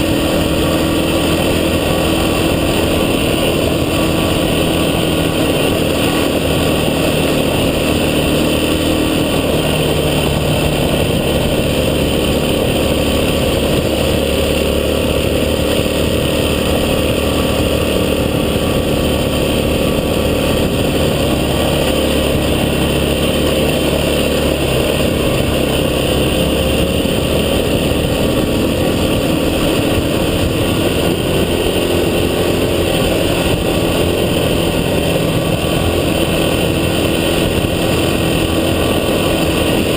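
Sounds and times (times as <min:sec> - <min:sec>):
travel noise: 0:00.0 - 0:39.9
vehicle engine running: 0:00.0 - 0:39.9.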